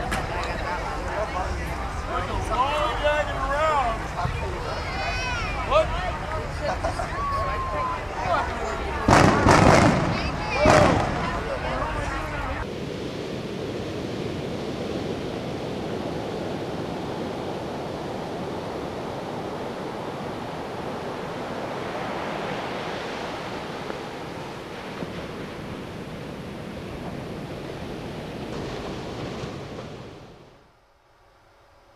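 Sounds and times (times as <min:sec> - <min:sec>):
wave breaking: 0:00.0 - 0:30.6
ocean surf washing: 0:00.0 - 0:30.7.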